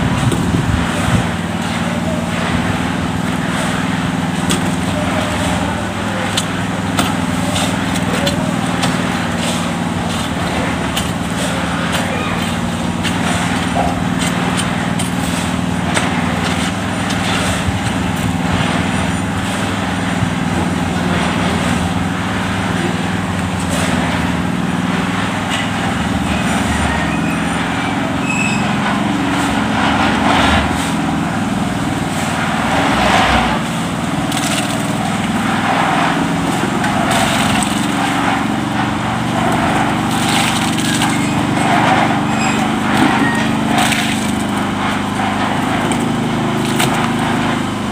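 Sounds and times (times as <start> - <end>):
knocks and scrapes of work: 0.0 - 47.9.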